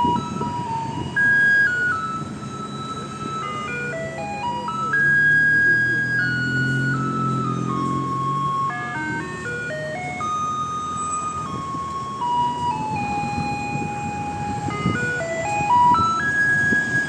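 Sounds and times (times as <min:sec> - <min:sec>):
electronic chime melody on loudspeaker: 0:00.0 - 0:17.0.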